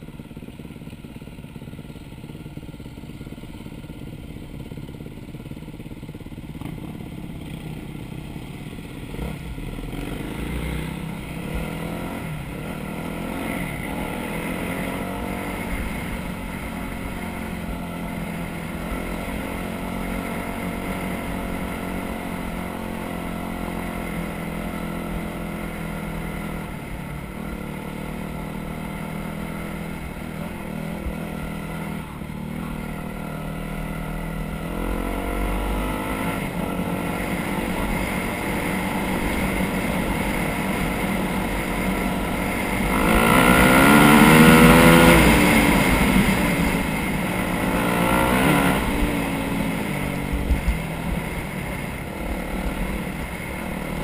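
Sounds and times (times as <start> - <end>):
off-road vehicle engine: 0.0 - 54.0.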